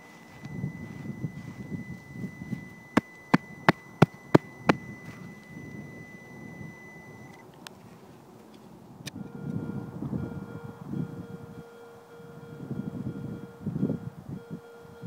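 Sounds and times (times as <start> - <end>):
metal detector high tone: 0.0 - 7.4, 9.1 - 15.0.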